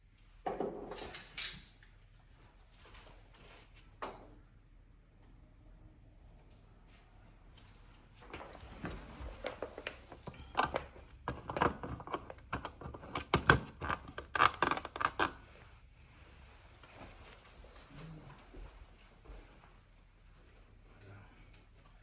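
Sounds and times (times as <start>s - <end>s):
faint room noise: 0.0s - 22.0s.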